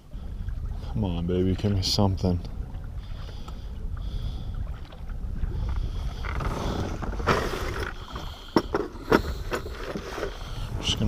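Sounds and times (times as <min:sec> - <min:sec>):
water lapping against hull: 0:00.0 - 0:11.0
wind rumbling on microphone: 0:00.0 - 0:11.0.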